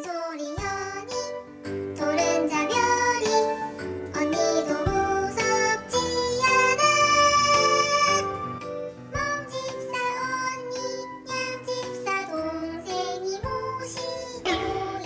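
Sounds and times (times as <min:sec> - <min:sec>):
background music with melody: 0:00.0 - 0:15.0.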